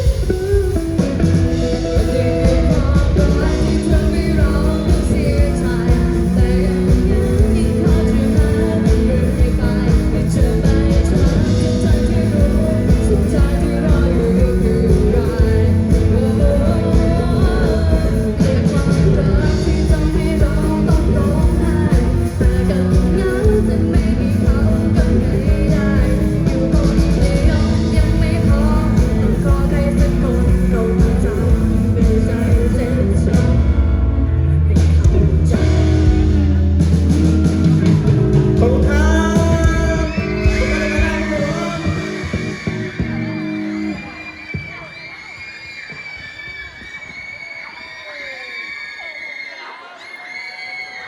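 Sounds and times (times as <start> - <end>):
live rock band with singer: 0.0 - 51.0.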